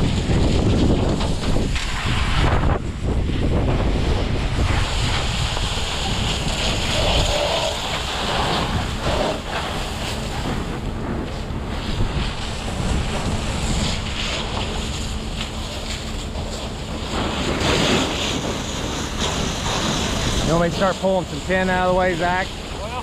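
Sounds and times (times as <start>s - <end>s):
fire hoses spraying water: 0.0s - 23.0s
wind buffeting microphone: 0.0s - 23.0s.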